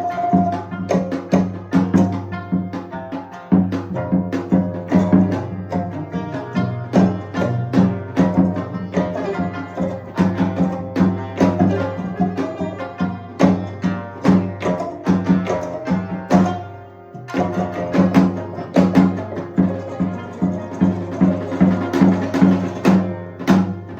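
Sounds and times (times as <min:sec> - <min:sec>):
fast drum strokes: 0:00.0 - 0:23.9.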